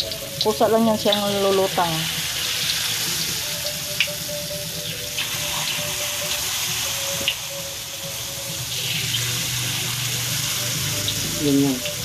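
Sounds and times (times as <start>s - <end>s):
batter sizzling in hot oil: 0.0s - 12.0s
oil popping: 0.0s - 12.0s.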